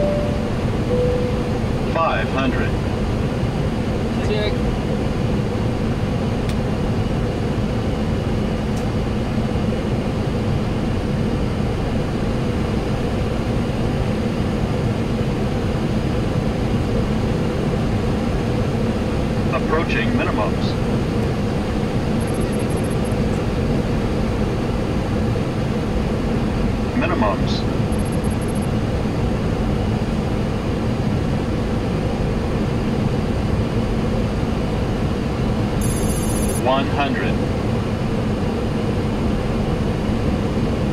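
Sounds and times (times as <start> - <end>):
airflow rushing around cockpit: 0.0 - 40.9
constant low hum: 0.0 - 40.9
jet engine noise: 0.0 - 40.9.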